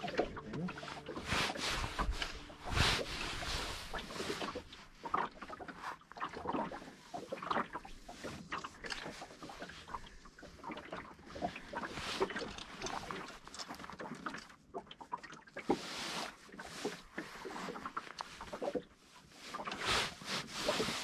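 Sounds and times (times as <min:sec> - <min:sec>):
waves lapping against boat hull: 0:00.0 - 0:21.0.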